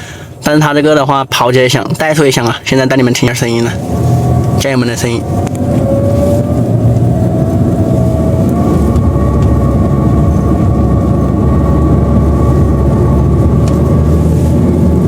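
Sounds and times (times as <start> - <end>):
car engine rumble: 0.0 - 15.0
steady whining tone: 2.1 - 15.0.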